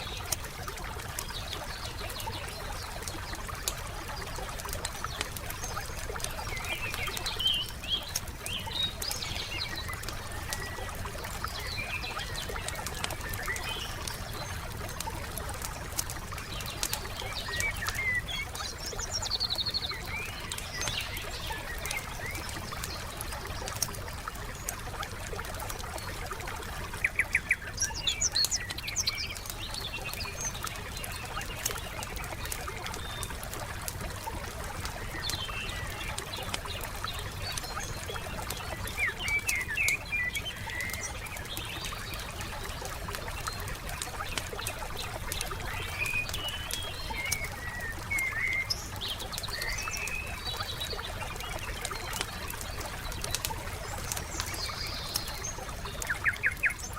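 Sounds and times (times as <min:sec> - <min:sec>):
campfire crackling: 0:00.0 - 0:56.9
songbirds chirping: 0:00.0 - 0:56.9.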